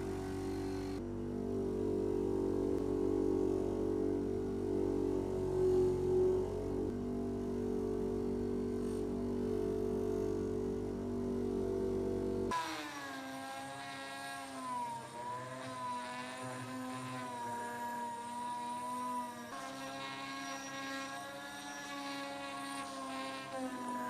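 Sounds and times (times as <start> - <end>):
electric power tool motor: 0.0 - 24.0.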